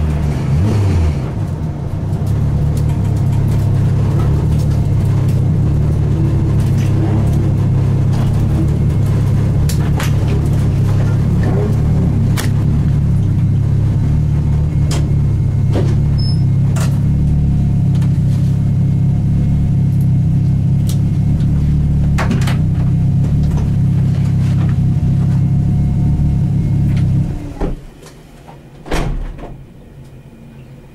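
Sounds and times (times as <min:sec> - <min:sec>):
car engine droning: 0:00.0 - 0:30.9.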